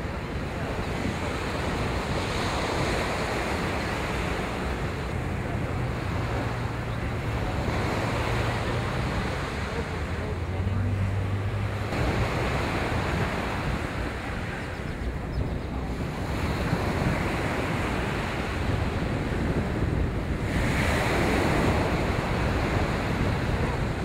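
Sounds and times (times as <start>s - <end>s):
surf washing on shore: 0.0s - 24.0s
wind buffeting microphone: 0.0s - 24.0s.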